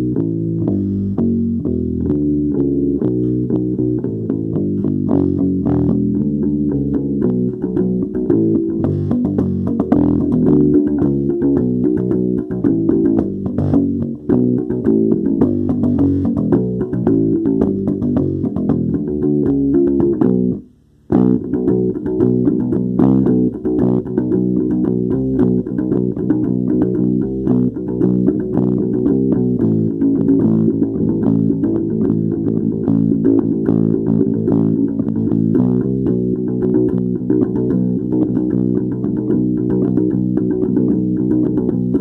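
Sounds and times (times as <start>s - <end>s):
plucked bass and guitar music: 0.0s - 42.0s.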